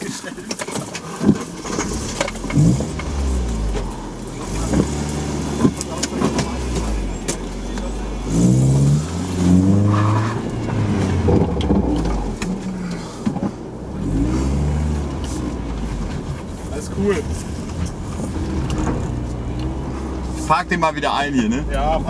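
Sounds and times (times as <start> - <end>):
car engine revving: 1.2 - 22.0.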